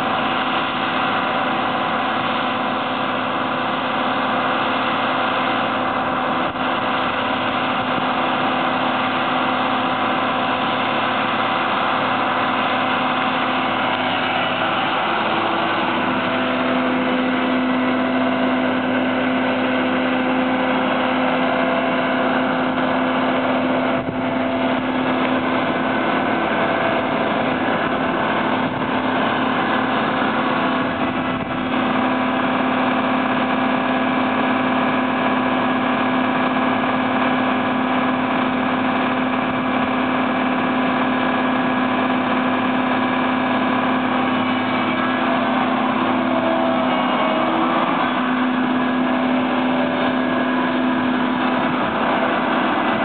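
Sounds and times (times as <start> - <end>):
diesel engine running steadily: 0.0 - 53.0.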